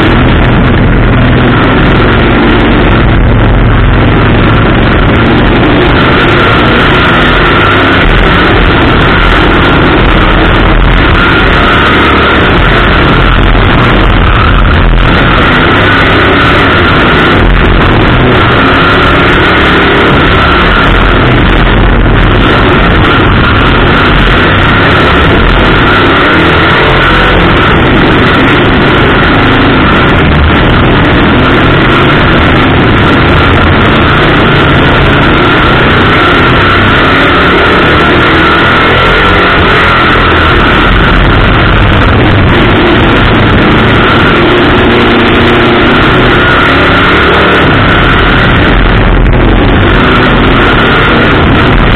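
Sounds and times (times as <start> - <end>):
race car engine running: 0.0 - 51.9.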